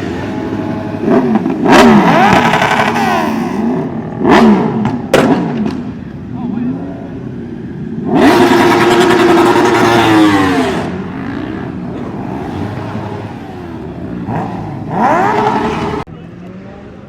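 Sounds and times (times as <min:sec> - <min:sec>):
car engine revving: 0:00.0 - 0:05.9, 0:08.0 - 0:16.1.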